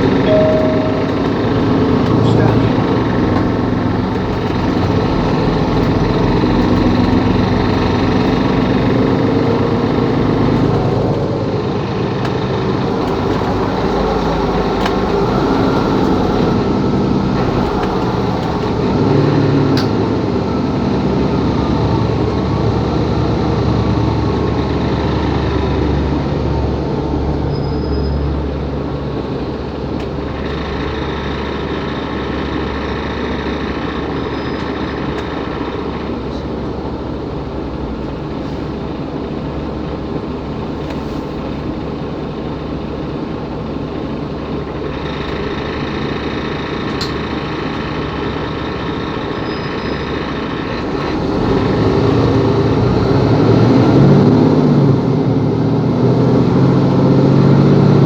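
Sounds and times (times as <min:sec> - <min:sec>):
bus diesel engine driving: 0:00.0 - 0:58.0.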